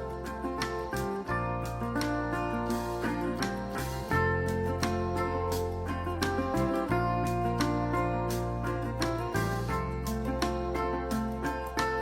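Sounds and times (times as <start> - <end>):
instrumental guitar passage: 0.0 - 12.0
steady drum beat: 0.0 - 12.0
sustained bass notes: 0.0 - 12.0.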